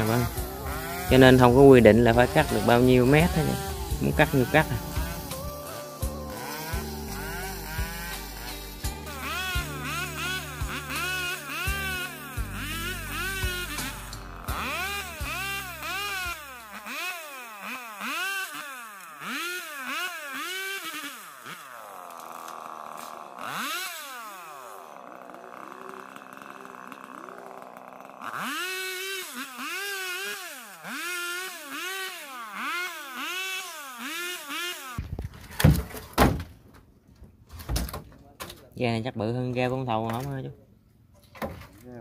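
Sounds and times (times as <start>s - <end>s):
chainsaw revving cutting wood: 0.0s - 36.0s.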